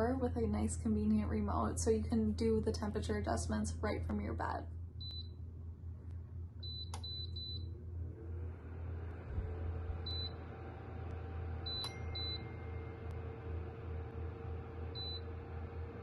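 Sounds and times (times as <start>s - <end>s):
heater fan rushing: 0.0s - 16.0s.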